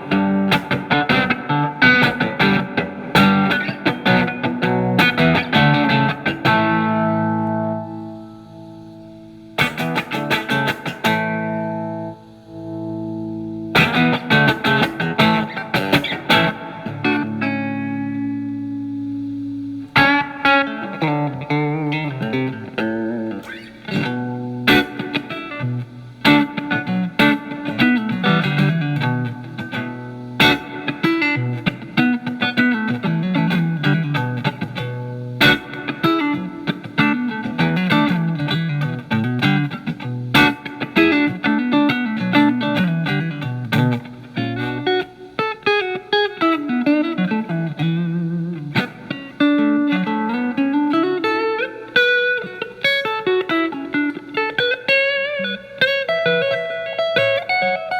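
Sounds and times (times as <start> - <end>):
electric guitar licks and chords: 0.0 - 57.9.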